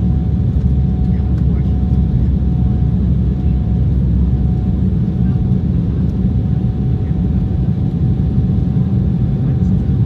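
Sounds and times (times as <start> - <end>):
jet engine rumble in cabin: 0.0 - 10.0.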